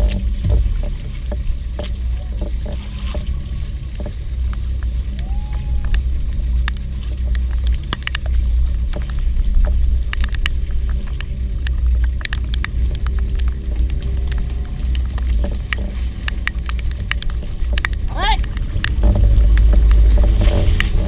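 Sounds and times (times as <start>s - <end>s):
boat engine rumbling: 0.0s - 21.0s
raindrops tapping: 0.0s - 21.0s.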